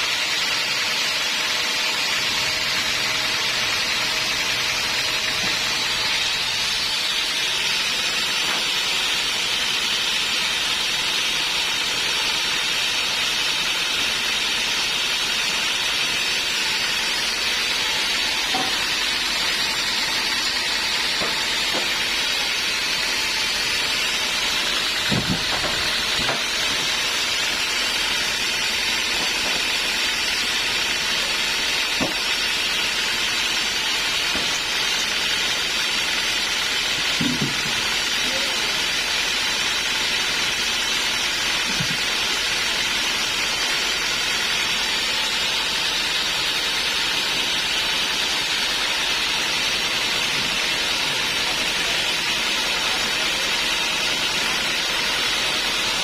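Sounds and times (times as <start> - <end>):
band saw cutting wood: 0.0 - 56.0
machine running: 0.0 - 56.0.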